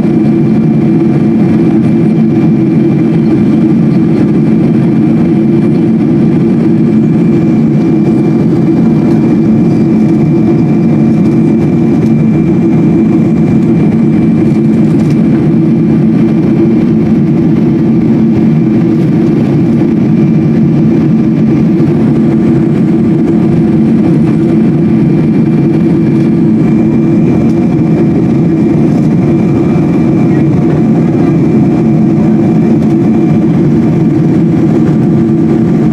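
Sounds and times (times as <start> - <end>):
jet engine drone in cabin: 0.0 - 35.9.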